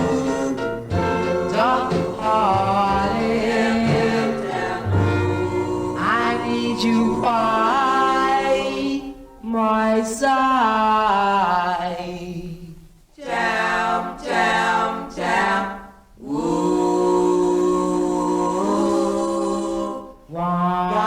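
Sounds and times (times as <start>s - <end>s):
vocal group singing harmony: 0.0s - 21.0s.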